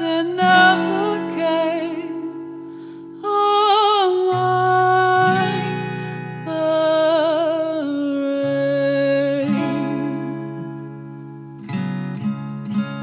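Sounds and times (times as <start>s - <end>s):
acoustic guitar chords ringing: 0.0s - 13.0s.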